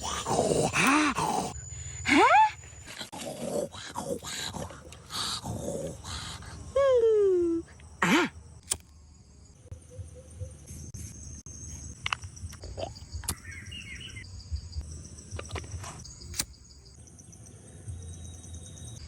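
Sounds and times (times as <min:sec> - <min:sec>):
insects chirping chorus: 0:00.0 - 0:19.0.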